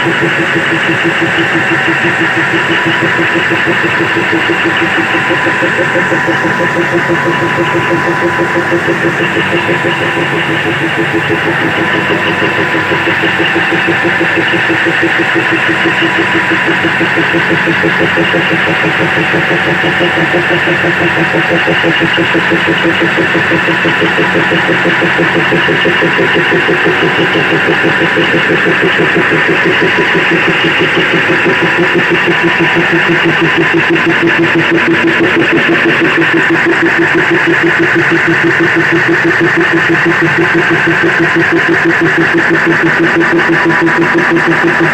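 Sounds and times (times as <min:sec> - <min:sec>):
diesel locomotive engine drone: 0:00.0 - 0:44.9.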